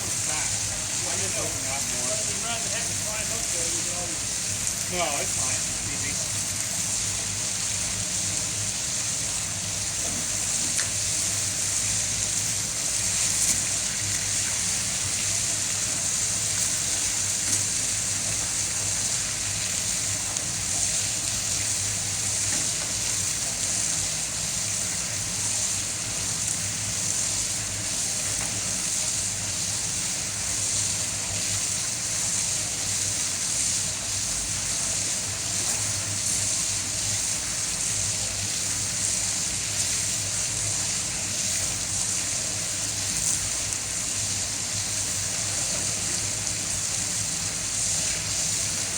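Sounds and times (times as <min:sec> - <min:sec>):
low machine hum: 0:00.0 - 0:48.9
water rushing in a tank: 0:00.0 - 0:48.9.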